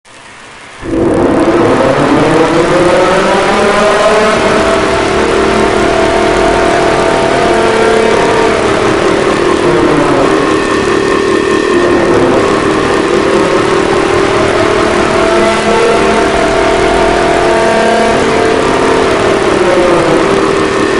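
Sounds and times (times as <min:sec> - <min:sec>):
emergency alarm siren: 0:00.8 - 0:20.9.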